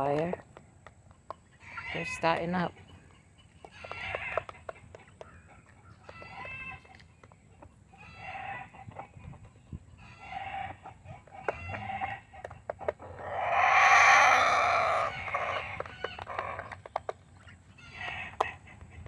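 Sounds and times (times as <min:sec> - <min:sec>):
chickens calling: 0:00.0 - 0:19.0.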